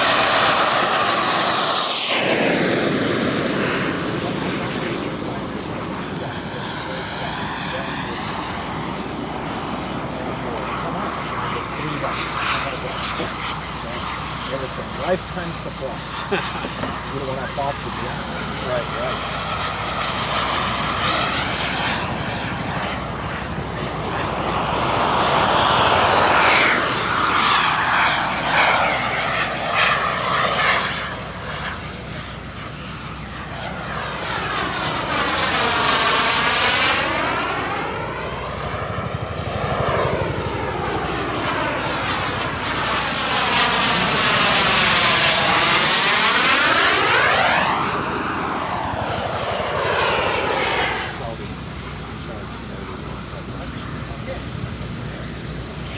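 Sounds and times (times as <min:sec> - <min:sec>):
model jet turbine roar: 0:00.0 - 0:55.9.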